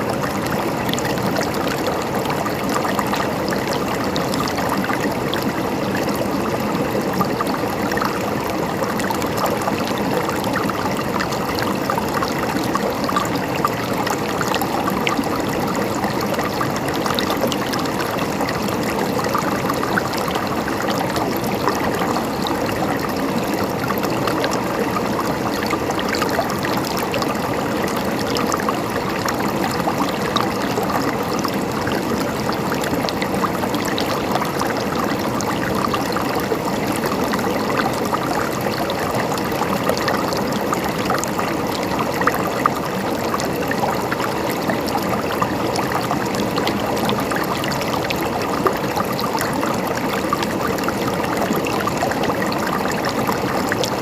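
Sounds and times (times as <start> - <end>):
water flowing and gurgling: 0.0 - 54.0.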